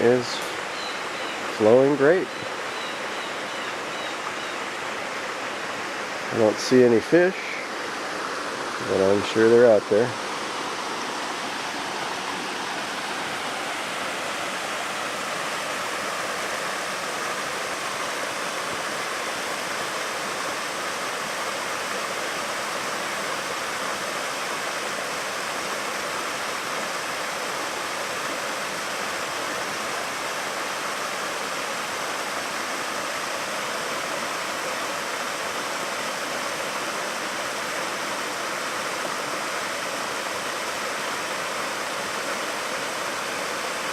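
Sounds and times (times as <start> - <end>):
waterfall and stream rushing: 0.0 - 43.9.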